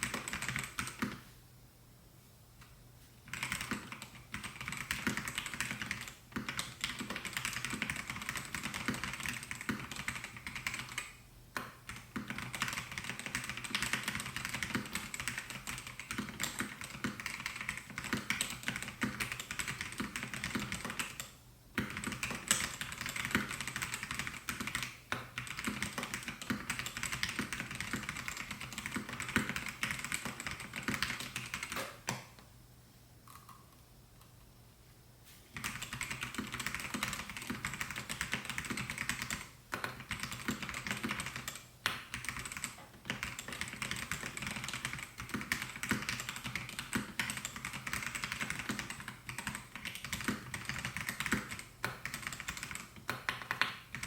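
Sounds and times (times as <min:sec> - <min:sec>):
fast mechanical keyboard typing: 0:00.0 - 0:01.2, 0:03.3 - 0:31.8, 0:35.6 - 0:54.0.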